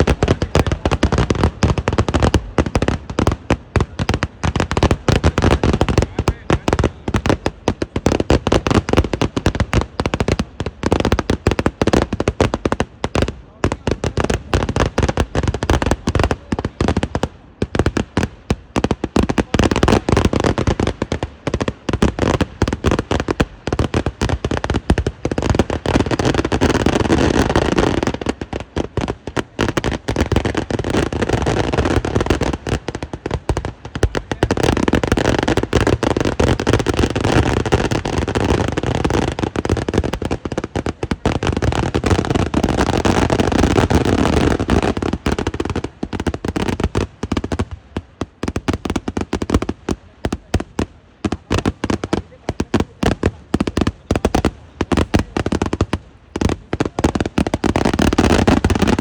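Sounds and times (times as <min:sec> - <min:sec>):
rapid firecracker blasts: 0:00.0 - 0:59.0.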